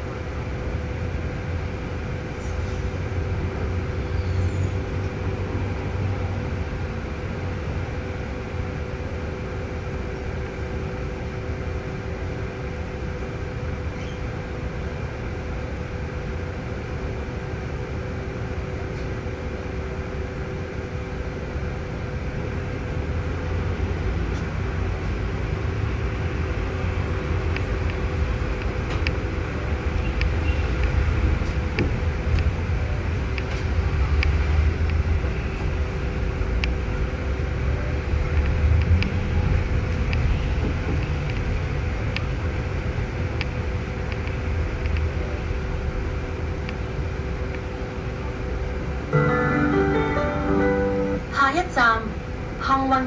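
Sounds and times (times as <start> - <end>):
bus engine and road rumble: 0.0 - 53.0
faint hum: 0.0 - 53.0.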